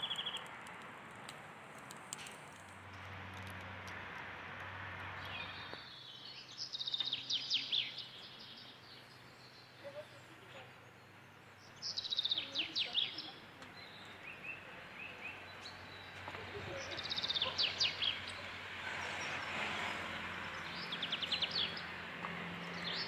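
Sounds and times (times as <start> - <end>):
songbird singing: 0.0 - 0.8, 5.1 - 23.0
faint outdoor background: 0.0 - 23.0.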